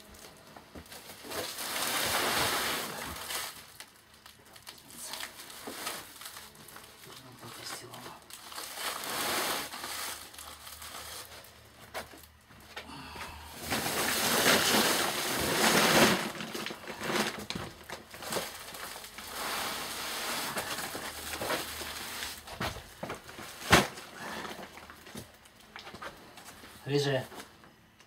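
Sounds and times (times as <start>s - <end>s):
sacks and paper rustling: 0.0s - 27.7s.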